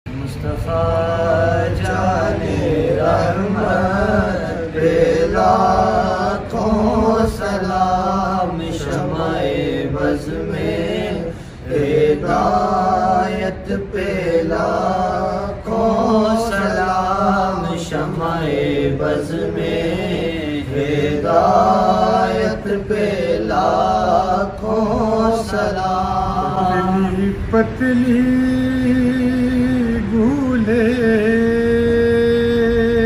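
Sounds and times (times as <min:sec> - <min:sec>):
men humming a drone: 0:00.1 - 0:33.0
men singing wordless melody: 0:00.1 - 0:33.0.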